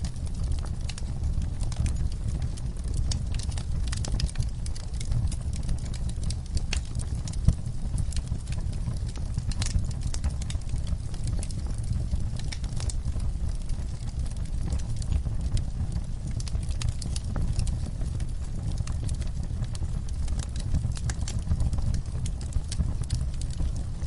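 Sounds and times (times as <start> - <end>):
flames rumbling: 0.0 - 24.0
logs crackling and popping: 0.0 - 24.0.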